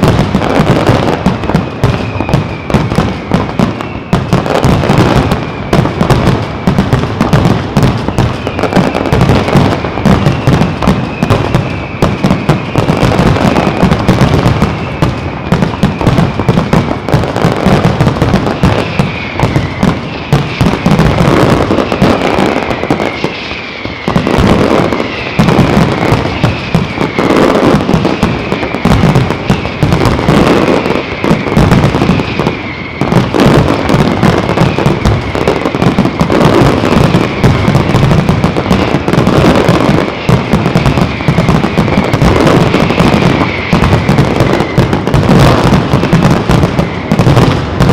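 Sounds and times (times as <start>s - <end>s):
descending firework whistle: 0.0s - 47.9s
fireworks bangs and crackles: 0.0s - 47.9s.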